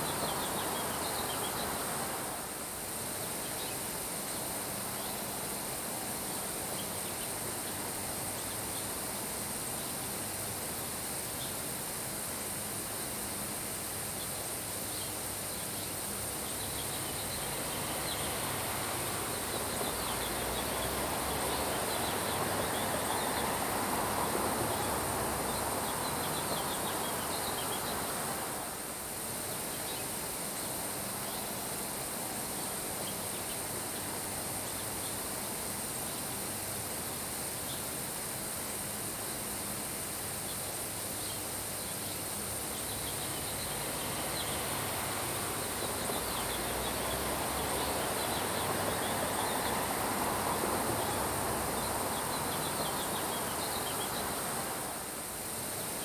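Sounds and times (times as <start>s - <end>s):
rain falling on grass: 0.0s - 56.0s
wind: 0.0s - 56.0s.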